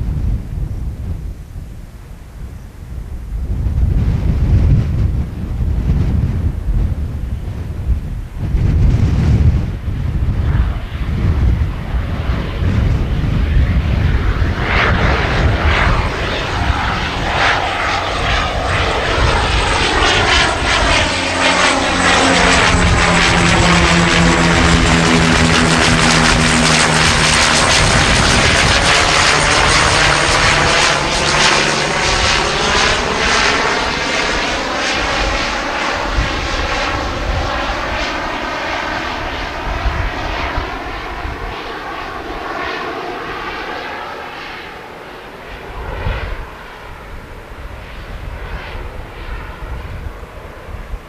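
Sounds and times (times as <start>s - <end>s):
turboprop airliner propeller drone: 0.0s - 51.0s
wind buffeting microphone: 0.0s - 51.0s.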